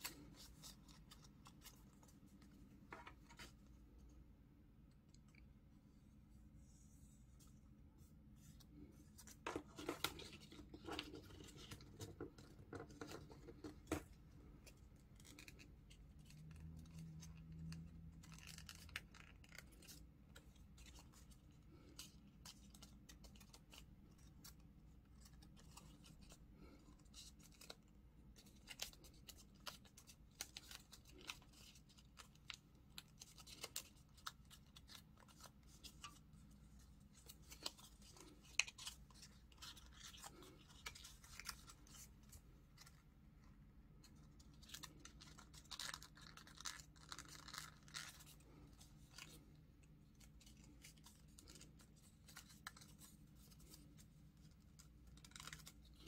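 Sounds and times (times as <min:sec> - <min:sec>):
paper being folded: 0:00.0 - 0:04.2, 0:06.4 - 0:56.0.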